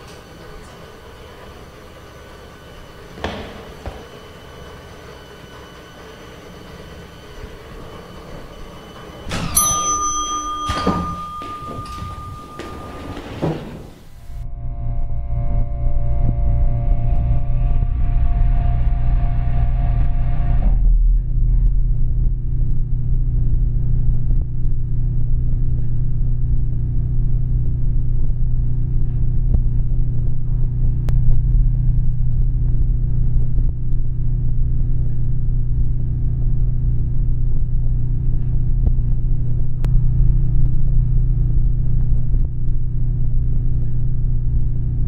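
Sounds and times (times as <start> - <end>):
low rumbling vehicle drone: 0.0 - 45.0.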